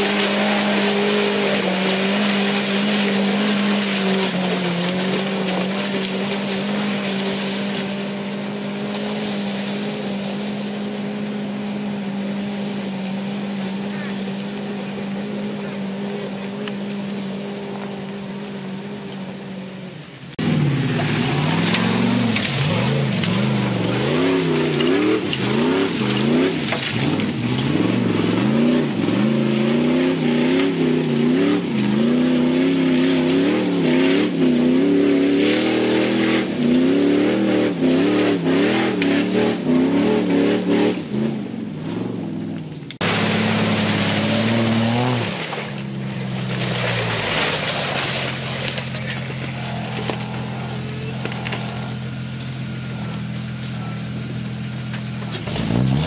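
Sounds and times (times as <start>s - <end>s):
stones crunching under tyres: 0.0s - 19.3s, 20.3s - 39.2s, 41.8s - 56.0s
engine revving up and down: 0.0s - 19.5s, 20.3s - 56.0s.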